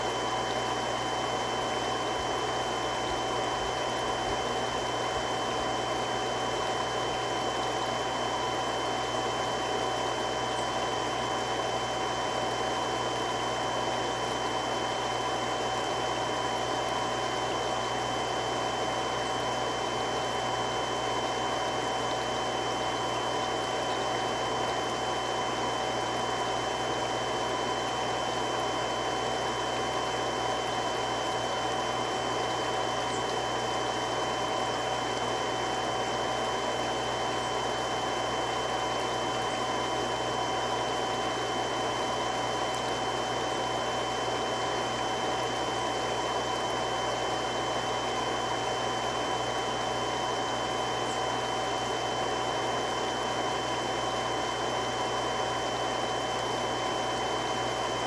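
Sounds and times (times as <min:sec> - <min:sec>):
water pump running: 0:00.0 - 0:58.0.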